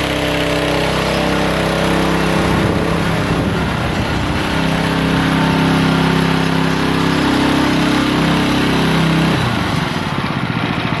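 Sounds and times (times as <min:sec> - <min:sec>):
power trowel engine running: 0:00.0 - 0:11.0.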